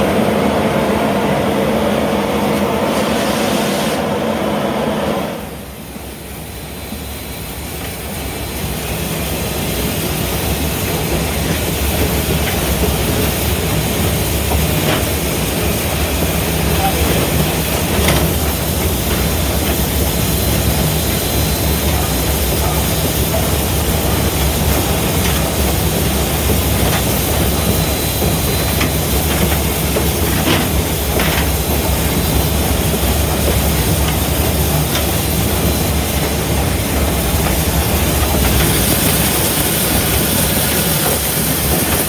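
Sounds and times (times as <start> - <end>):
locomotive engine and wheels rumbling: 0.0 - 42.0
steam hissing: 0.0 - 42.0.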